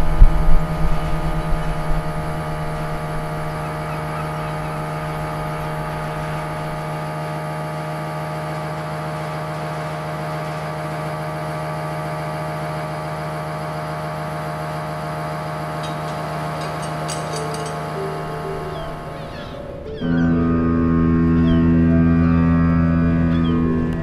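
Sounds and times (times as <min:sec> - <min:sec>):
machine hum: 0:00.0 - 0:24.0.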